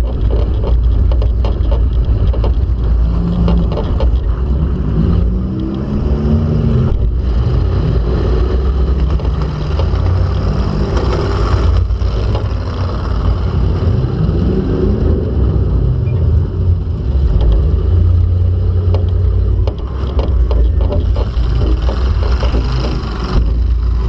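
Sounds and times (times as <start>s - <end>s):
knocks and rattles: 0.0s - 15.3s, 16.4s - 24.0s
car engine revving: 0.0s - 24.0s.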